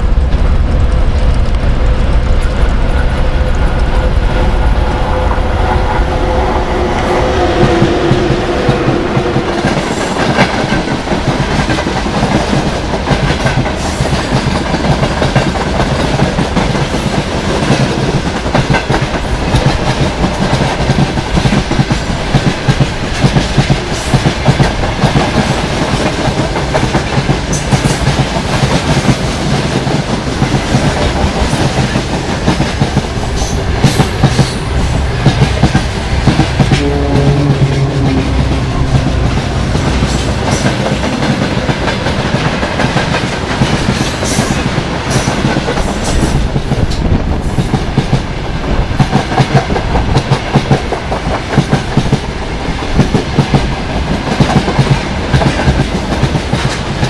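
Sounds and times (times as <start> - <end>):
electric locomotive hum: 0.0 - 57.0
train wheels clacking over rail joints: 7.7 - 57.0.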